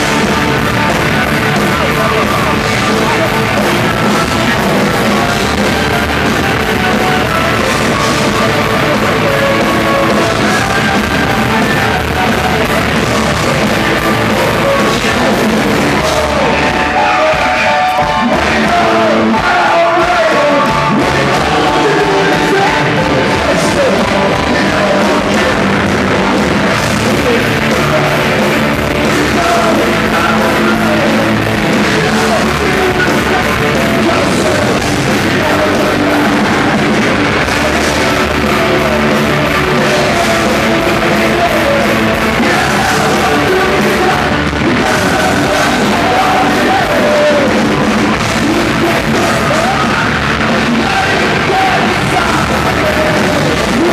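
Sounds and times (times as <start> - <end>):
hard rock band playing: 0.0 - 53.9
person yelling singing: 0.0 - 53.9.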